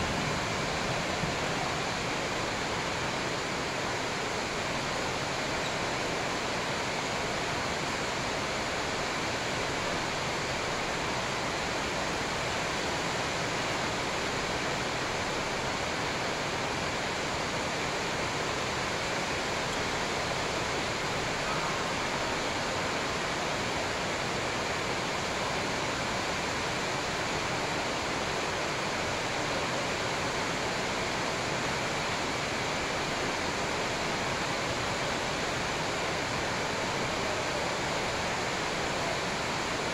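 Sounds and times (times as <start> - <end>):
steady rushing hiss: 0.0 - 39.9.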